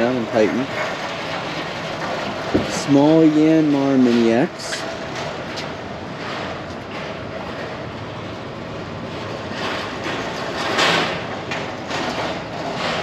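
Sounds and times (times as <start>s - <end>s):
vehicle rolling slowly: 0.0s - 13.0s.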